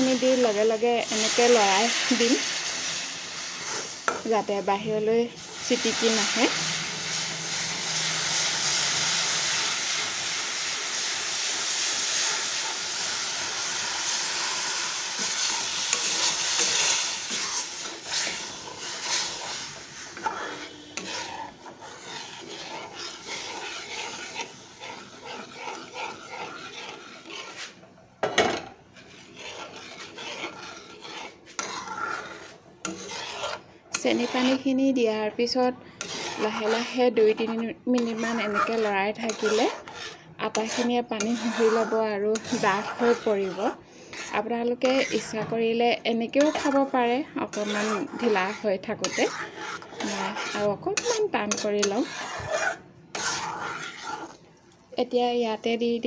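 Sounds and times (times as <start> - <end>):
metal spatula scraping: 0.0 - 54.4
syrup hissing and sizzling: 0.0 - 56.0.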